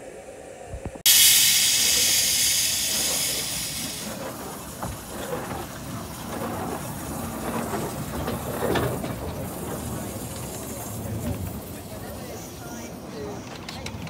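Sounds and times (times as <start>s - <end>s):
steam locomotive hissing: 1.1s - 14.0s.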